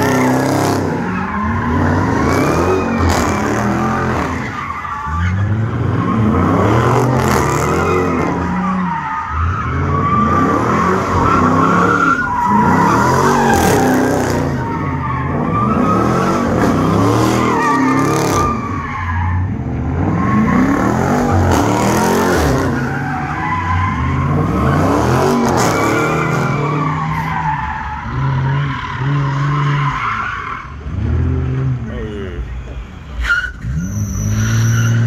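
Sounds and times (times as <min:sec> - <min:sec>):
car engine revving: 0:00.0 - 0:32.7
tires squealing: 0:00.0 - 0:35.0.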